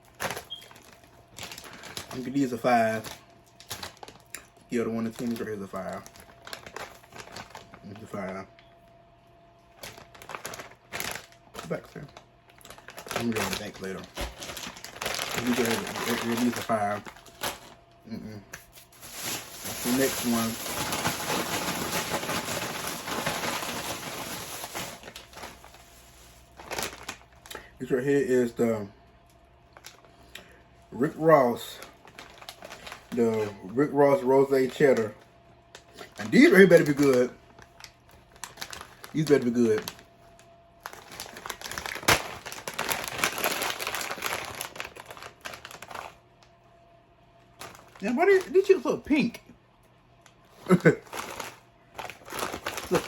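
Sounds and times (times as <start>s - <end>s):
plastic snack bag crinkling: 0.0s - 8.6s, 9.6s - 18.0s, 18.6s - 28.6s, 29.7s - 46.6s, 47.4s - 49.4s, 50.2s - 53.0s.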